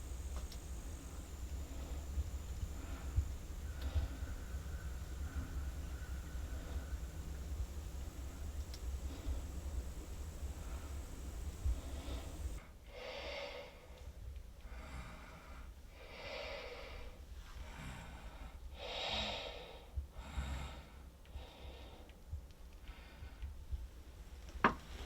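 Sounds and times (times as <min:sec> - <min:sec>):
person breathing: 0:00.1 - 0:14.0, 0:14.7 - 0:22.1.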